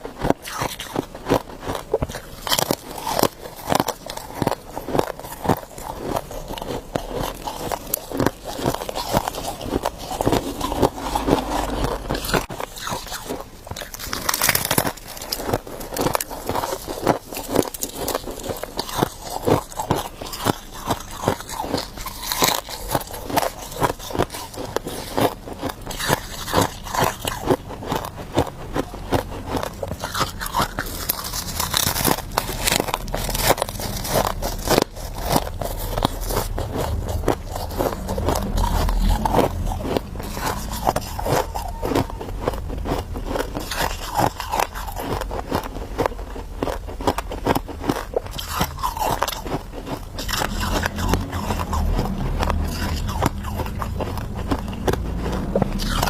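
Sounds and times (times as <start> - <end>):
ice being chewed: 0.0 - 56.0.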